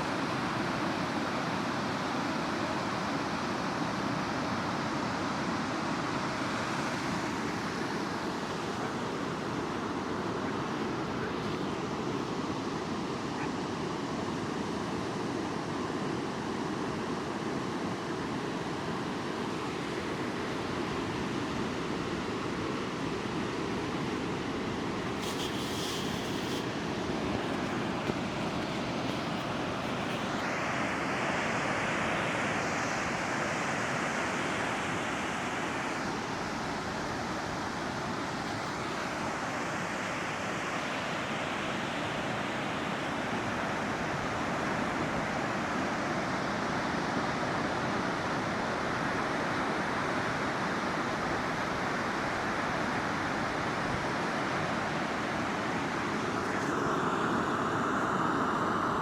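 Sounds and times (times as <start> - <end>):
surf washing on sandy beach: 0.0 - 59.0.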